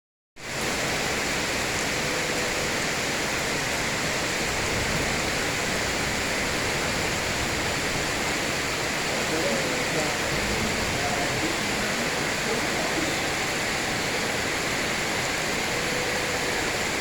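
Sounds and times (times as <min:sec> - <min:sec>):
heavy rain hissing: 0:00.4 - 0:17.0.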